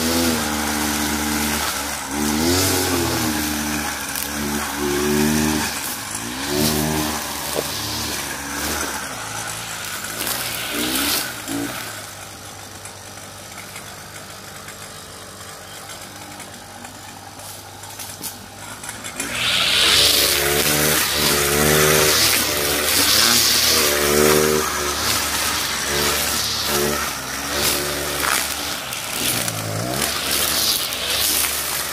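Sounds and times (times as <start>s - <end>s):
brush cutter engine revving: 0.0s - 31.9s.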